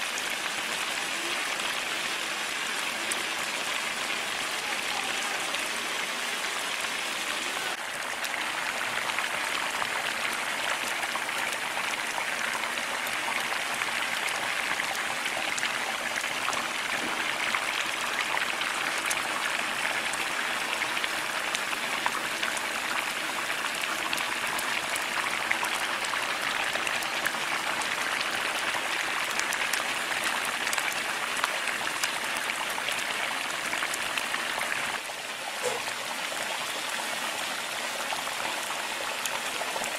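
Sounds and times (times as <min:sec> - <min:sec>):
milk boiling with bubbling pops: 0:07.7 - 0:39.9.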